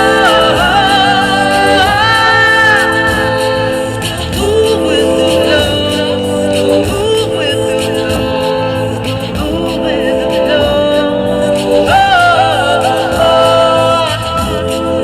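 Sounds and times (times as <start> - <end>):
singer holding long notes: 0.0 - 15.0
steady bass line: 0.0 - 15.0.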